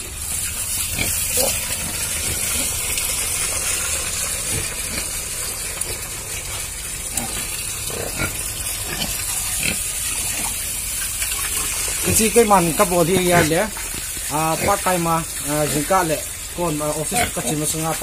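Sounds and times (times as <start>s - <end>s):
pigs grunting: 0.8s - 18.0s.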